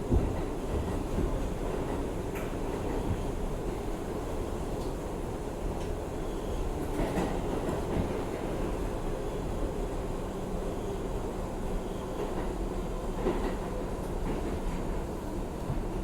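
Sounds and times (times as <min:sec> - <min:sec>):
subway car rumble: 0:00.0 - 0:16.0.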